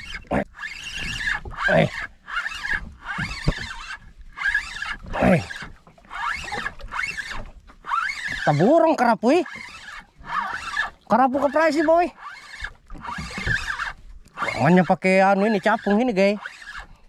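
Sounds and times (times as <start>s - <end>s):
fishing reel cranking: 0.0s - 17.0s
reel squeal: 0.0s - 17.0s.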